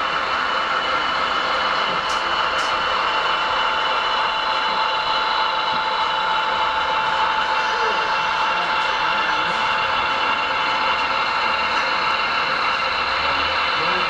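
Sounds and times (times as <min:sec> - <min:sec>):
model train humming and whining: 0:00.0 - 0:14.0.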